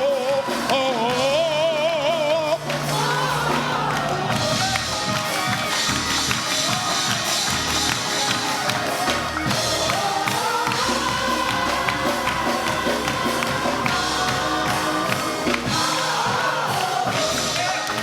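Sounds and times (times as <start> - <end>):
bass line: 0.6 - 6.4, 7.4 - 8.2, 9.0 - 18.0
drum strikes: 2.3 - 18.0.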